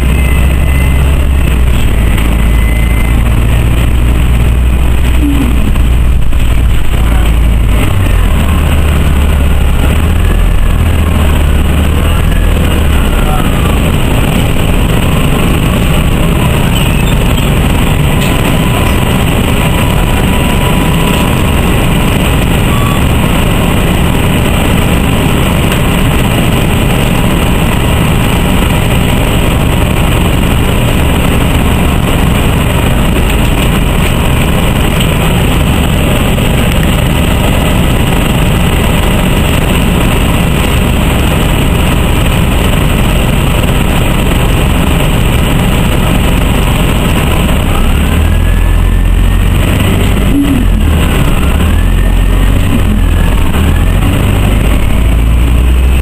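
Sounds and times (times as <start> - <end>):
bus engine idling: 0.0 - 56.0
bus engine rumbling: 0.0 - 56.0.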